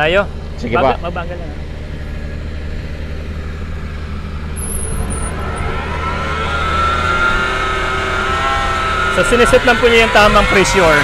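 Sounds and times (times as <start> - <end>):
tractor engine running: 0.0 - 9.2.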